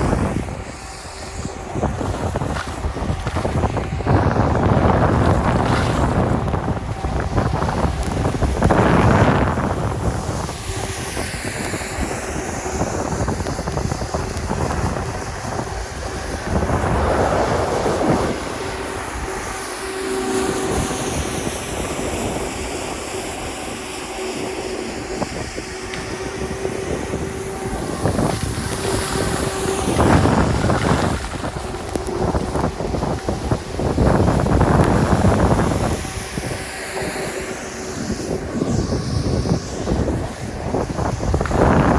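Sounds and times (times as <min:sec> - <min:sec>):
skis scraping on snow: 0:00.0 - 0:41.9
wind on microphone: 0:00.0 - 0:41.9.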